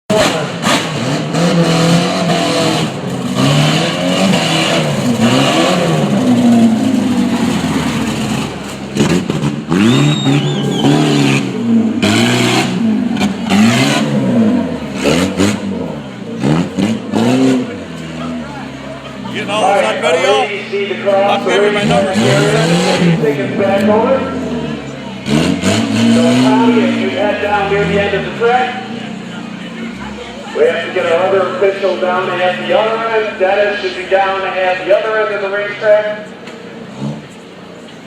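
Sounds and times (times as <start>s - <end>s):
monster truck engine revving: 0.1s - 38.0s.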